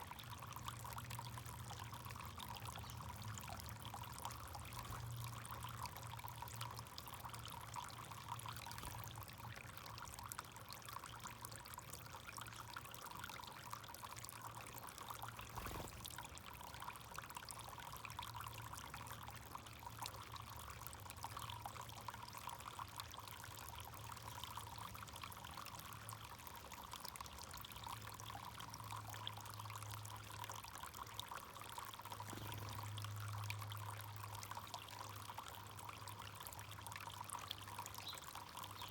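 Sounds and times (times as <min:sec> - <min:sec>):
fountain water trickling: 0:00.0 - 0:38.9.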